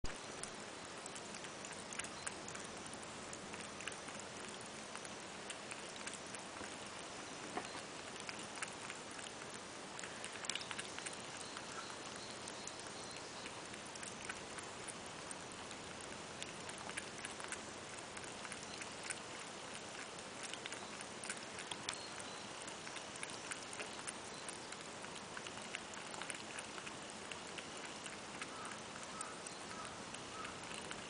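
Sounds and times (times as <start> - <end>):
cat lapping water: 0.0 - 31.0
steady hiss: 0.1 - 31.0.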